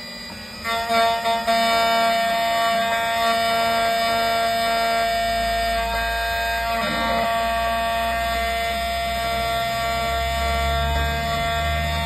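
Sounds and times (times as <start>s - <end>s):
key-cutting machine motor whine: 0.0s - 12.0s.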